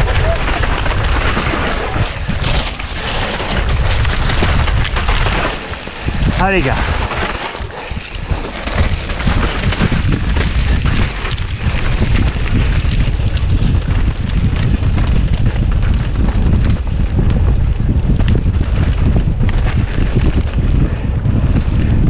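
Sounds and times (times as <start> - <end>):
bike rattling and knocking: 0.0 - 22.0
wind buffeting microphone: 0.0 - 22.0.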